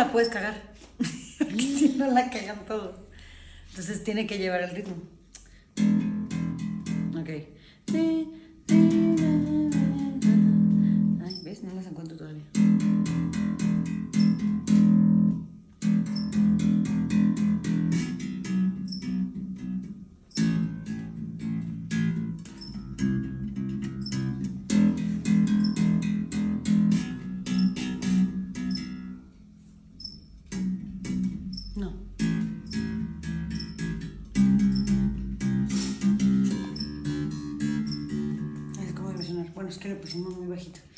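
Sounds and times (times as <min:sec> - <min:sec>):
electric bass plucked fingerstyle: 0:05.4 - 0:11.3, 0:12.5 - 0:40.9.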